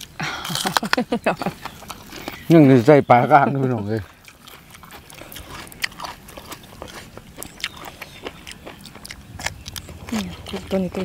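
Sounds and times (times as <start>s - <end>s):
crisp crunches of chewing: 0.0s - 11.0s.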